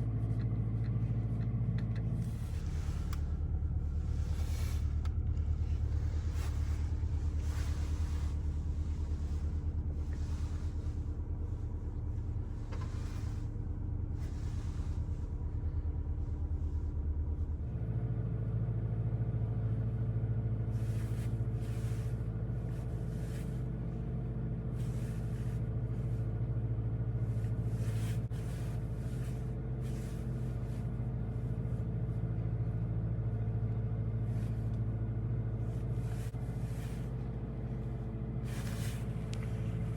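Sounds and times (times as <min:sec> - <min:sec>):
car engine droning at cruise: 0:00.0 - 0:39.9.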